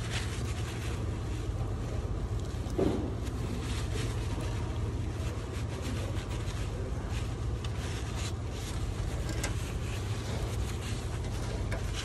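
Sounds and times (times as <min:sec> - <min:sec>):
paper rag rubbing on hull: 0:00.0 - 0:12.0
steady low hum: 0:00.0 - 0:12.0.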